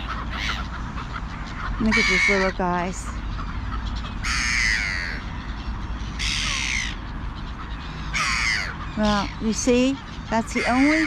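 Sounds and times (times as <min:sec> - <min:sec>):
crow cawing: 0:00.0 - 0:09.5, 0:10.1 - 0:11.0.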